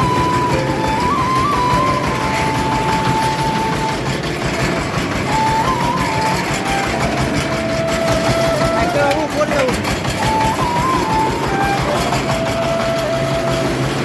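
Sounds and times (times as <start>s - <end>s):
farm machine engine running: 0.0s - 14.0s
thin melody of held notes: 0.0s - 14.0s.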